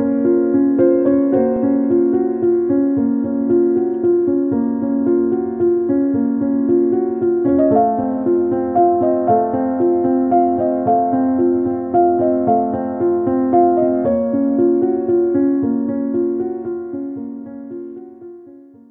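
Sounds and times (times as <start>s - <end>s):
background music melody over chords: 0.0s - 18.9s.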